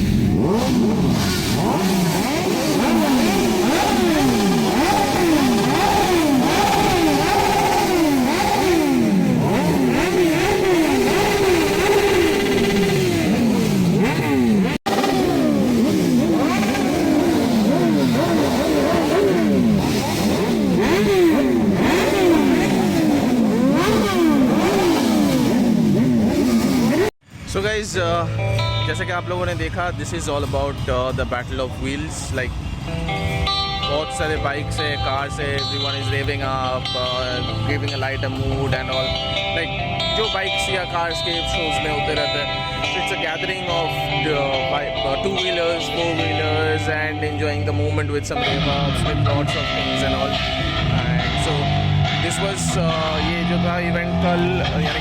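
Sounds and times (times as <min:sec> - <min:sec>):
motorcycle engines revving: 0:00.0 - 0:27.2, 0:32.6 - 0:55.0.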